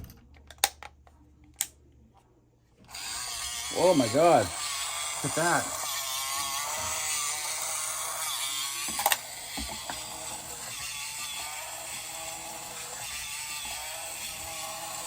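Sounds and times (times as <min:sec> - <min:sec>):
toy motor whirring and ratcheting: 0:02.9 - 0:15.0.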